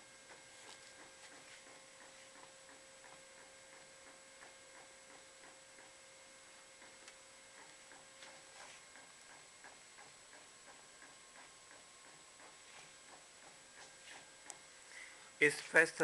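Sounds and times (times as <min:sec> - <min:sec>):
faint steady hum: 0:00.0 - 0:16.0
inkjet printer ticking: 0:00.1 - 0:14.7.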